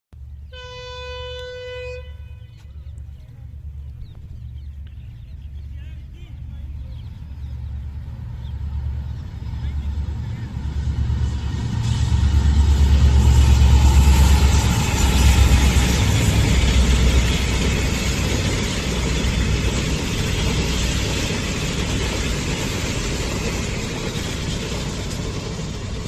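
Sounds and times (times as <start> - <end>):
vehicle engine deep rumble: 1.9 - 26.0.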